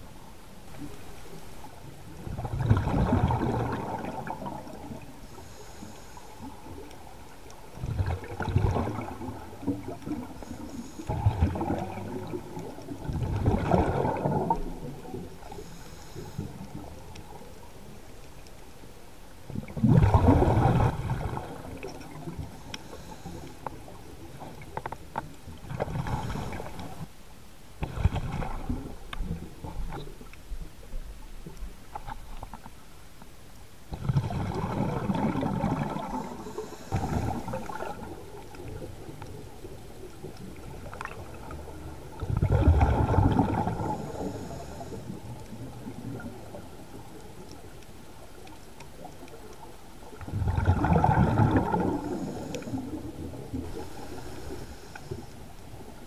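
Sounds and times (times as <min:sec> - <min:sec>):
steady low hiss: 0:00.0 - 0:50.5, 0:51.2 - 0:56.0
underwater air bubbling: 0:00.7 - 0:27.1, 0:27.8 - 0:32.6, 0:33.9 - 0:56.0.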